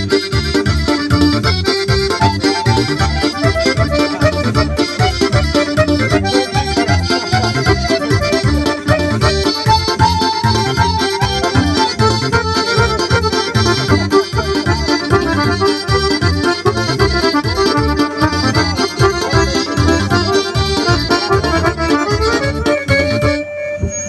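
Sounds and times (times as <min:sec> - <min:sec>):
steady beat: 0:00.0 - 0:23.4
accordion and keyboard playing tune: 0:00.0 - 0:24.0.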